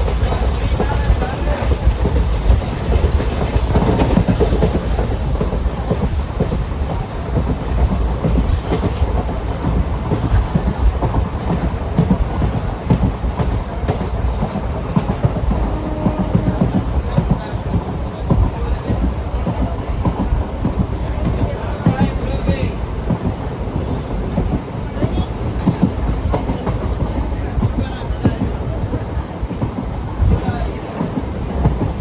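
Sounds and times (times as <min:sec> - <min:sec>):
train rumbling: 0:00.0 - 0:32.0
wheels clattering over track: 0:00.0 - 0:32.0.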